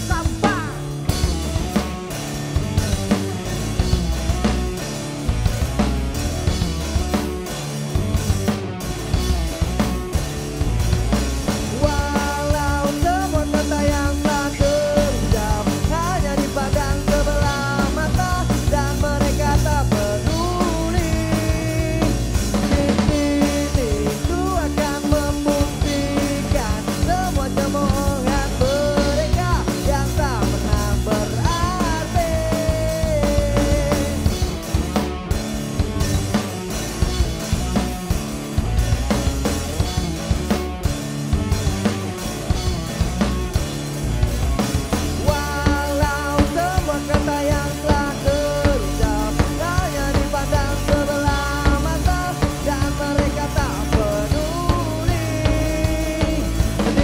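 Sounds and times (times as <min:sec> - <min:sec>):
punk rock band playing: 0:00.0 - 0:57.0.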